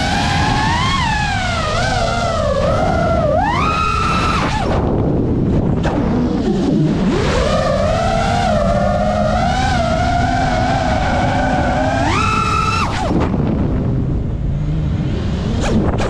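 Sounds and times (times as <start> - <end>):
drone motors whining: 0.0 - 16.0
wind and prop wash rushing: 0.0 - 16.0.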